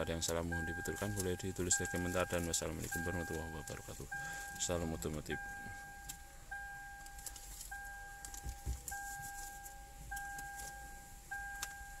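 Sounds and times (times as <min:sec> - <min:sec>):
car warning chime: 0:00.0 - 0:12.0.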